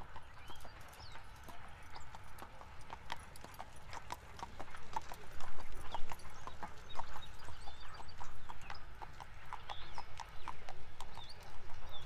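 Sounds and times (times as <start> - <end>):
horse hooves on hard road: 0.0 - 12.0.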